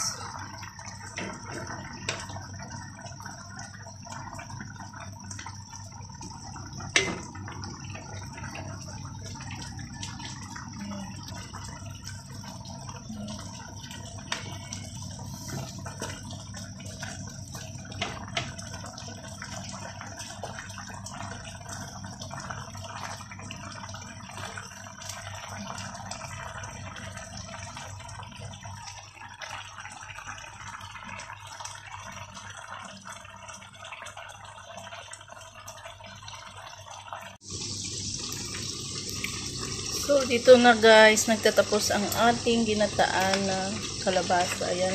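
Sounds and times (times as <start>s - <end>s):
stew bubbling in a pan: 0.0s - 44.9s.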